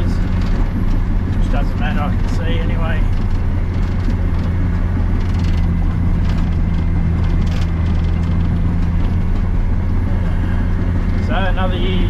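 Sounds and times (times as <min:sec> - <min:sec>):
light clicks and rattles: 0:00.0 - 0:09.7
bulldozer diesel engine droning: 0:00.0 - 0:12.0.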